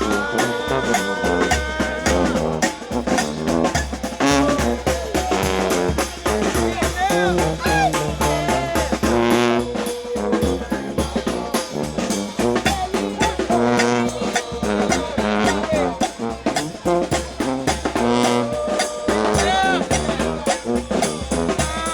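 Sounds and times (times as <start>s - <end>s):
steady drum beat: 0.0s - 21.9s
trombones and trumpets playing: 0.0s - 21.9s.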